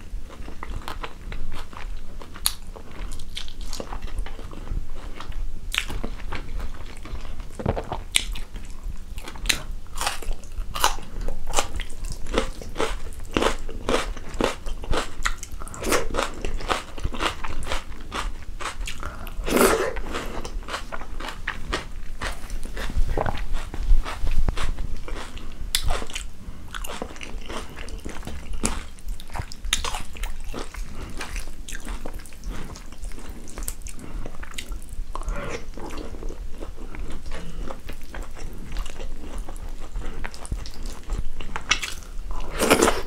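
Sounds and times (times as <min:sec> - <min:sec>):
chewing food: 0:00.2 - 0:43.0.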